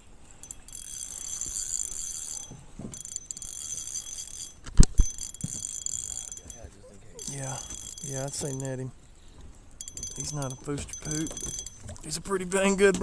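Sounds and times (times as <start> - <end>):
fishing reel whirring: 0.2 - 8.9, 9.8 - 12.2.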